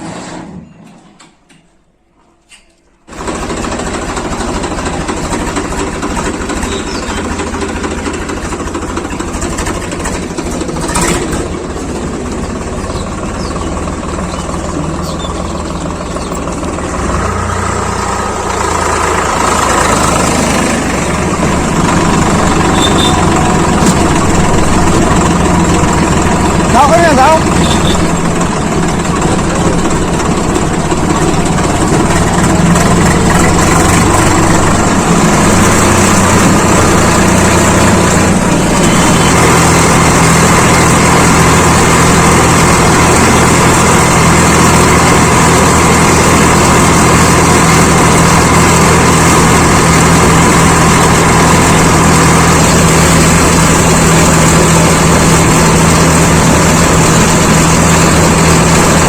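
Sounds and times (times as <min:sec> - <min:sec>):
tractor diesel engine running: 0:03.0 - 0:59.0.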